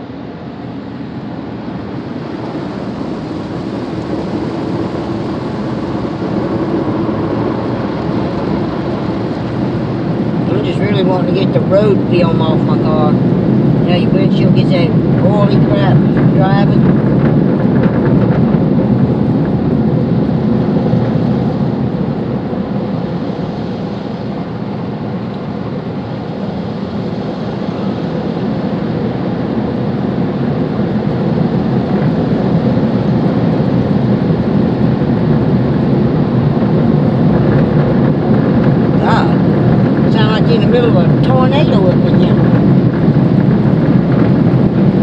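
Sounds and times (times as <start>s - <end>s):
car wash water jets and air rushing: 0.0s - 45.0s.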